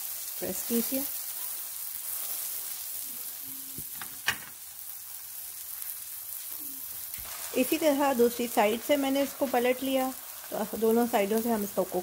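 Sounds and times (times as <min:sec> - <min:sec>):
omelette sizzling in oil: 0:00.0 - 0:12.0.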